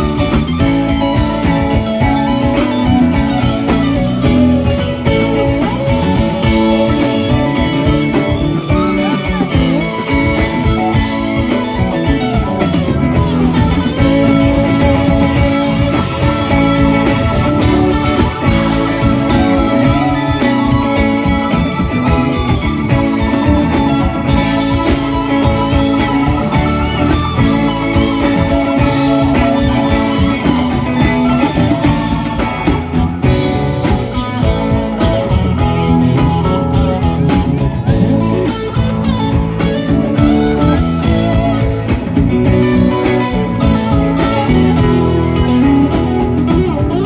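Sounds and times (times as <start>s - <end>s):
electric guitar lead: 0.0s - 47.0s
live rock band playing: 0.0s - 47.0s.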